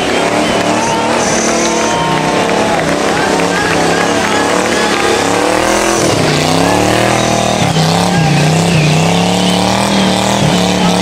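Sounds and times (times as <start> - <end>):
car engine at high revs: 0.0 - 11.0.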